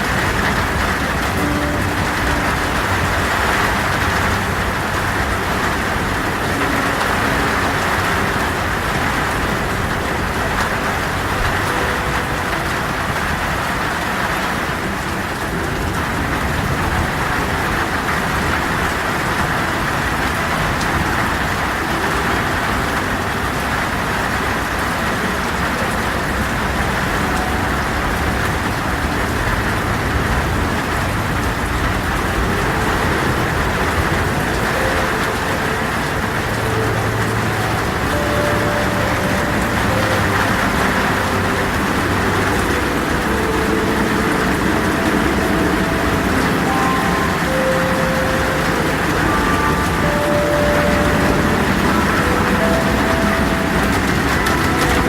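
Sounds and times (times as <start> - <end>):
heavy rain falling: 0.0 - 55.0
low rumble: 0.0 - 55.0.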